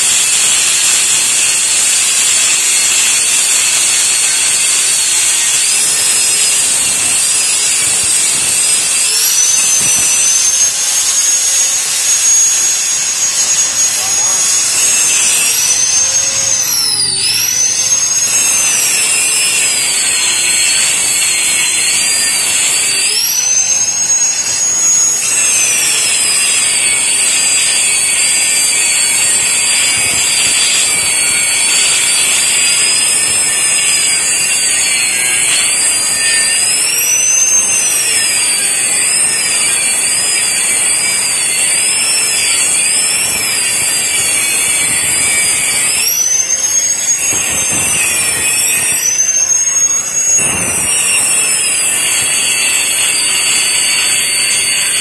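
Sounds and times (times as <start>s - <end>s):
angle grinder cutting steel: 0.0s - 55.0s.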